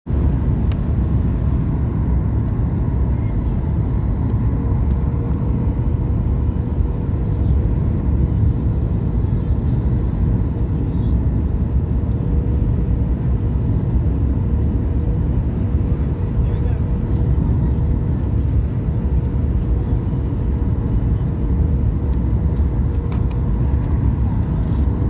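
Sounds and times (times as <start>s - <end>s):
airliner cabin engine rumble: 0.1s - 25.0s.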